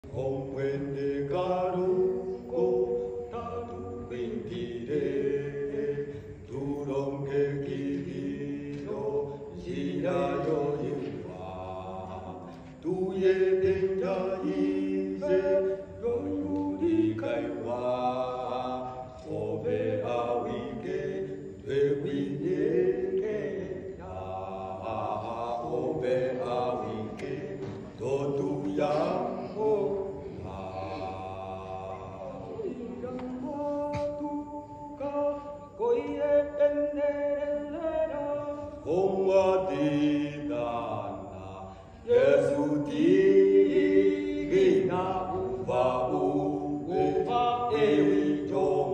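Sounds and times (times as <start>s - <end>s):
men singing a cappella: 0.0s - 48.9s.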